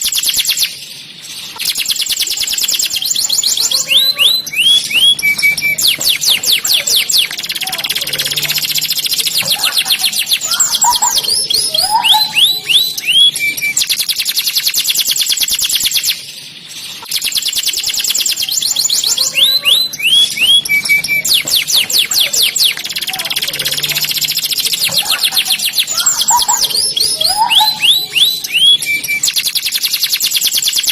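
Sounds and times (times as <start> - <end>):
canary singing: 0.0 - 30.9.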